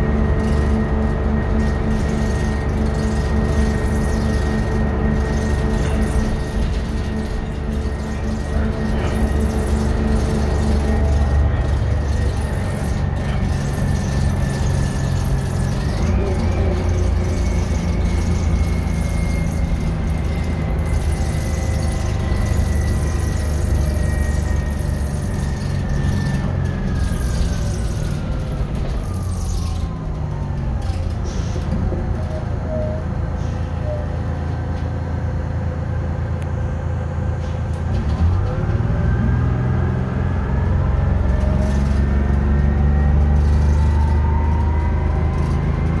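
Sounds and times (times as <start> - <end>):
bus diesel engine whining: 0.0 - 46.0.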